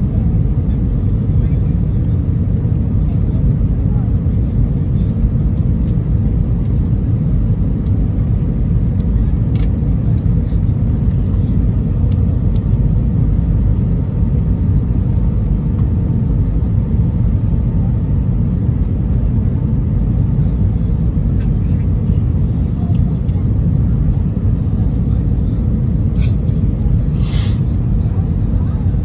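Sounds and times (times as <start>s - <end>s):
engine and airflow rumble in cabin: 0.0s - 29.0s.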